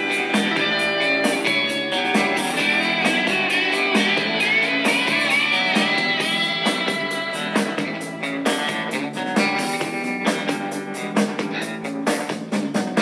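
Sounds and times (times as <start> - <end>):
rock music through small speakers: 0.0 - 13.0.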